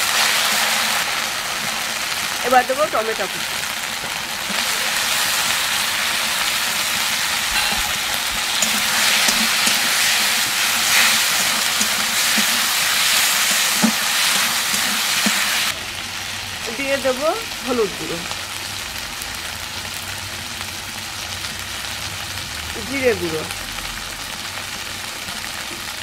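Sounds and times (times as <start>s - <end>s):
tomatoes sizzling in hot oil: 0.0s - 26.0s.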